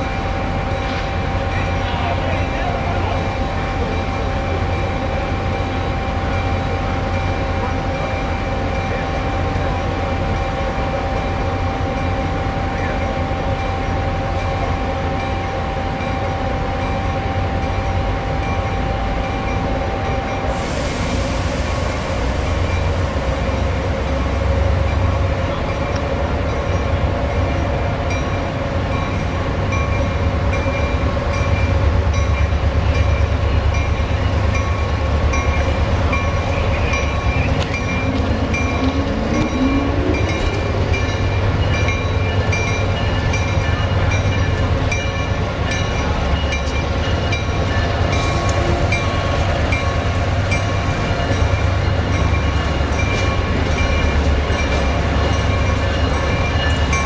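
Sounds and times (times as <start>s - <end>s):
locomotive rumble: 0.0s - 57.0s.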